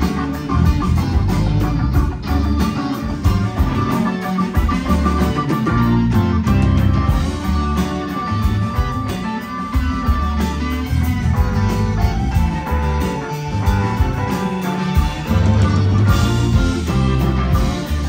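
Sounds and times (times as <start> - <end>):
electric guitar: 0.0 - 18.0
rock band playing: 0.0 - 18.0.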